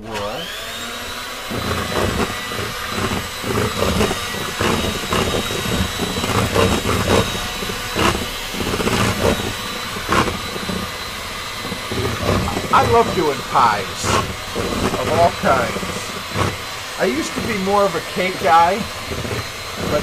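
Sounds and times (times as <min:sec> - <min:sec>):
hand mixer whining: 0:00.0 - 0:20.0.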